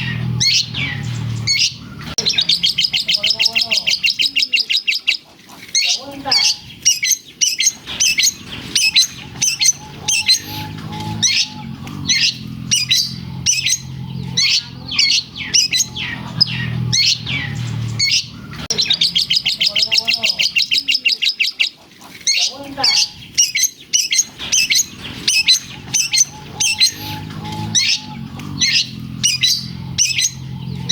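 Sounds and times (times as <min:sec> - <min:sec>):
bird singing sharp chirps: 0:00.0 - 0:21.7, 0:22.3 - 0:30.9
bird trill: 0:00.0 - 0:30.9.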